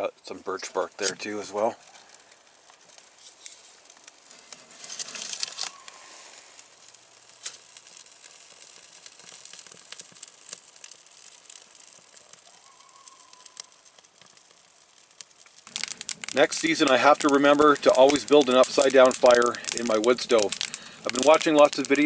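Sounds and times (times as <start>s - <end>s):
bark and kindling crinkling: 0.5s - 22.0s.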